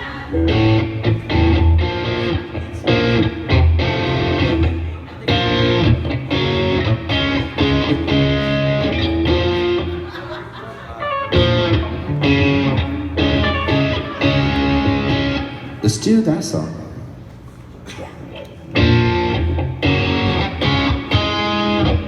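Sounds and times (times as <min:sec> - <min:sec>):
strummed electric guitar: 0:00.3 - 0:10.1, 0:11.0 - 0:15.8, 0:18.7 - 0:22.0
live amplified band music: 0:00.4 - 0:10.2, 0:11.0 - 0:15.9, 0:18.8 - 0:22.0.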